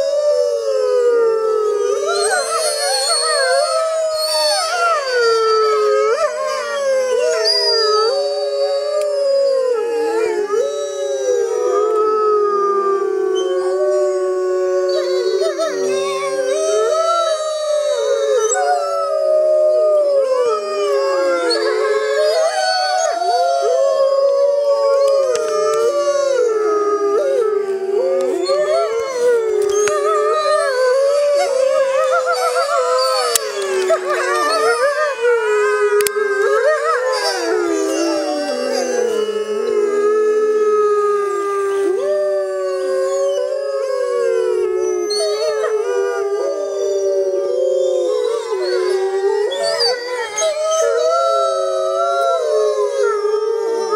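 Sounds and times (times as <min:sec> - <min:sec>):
wolves howling: 0:00.0 - 0:53.9.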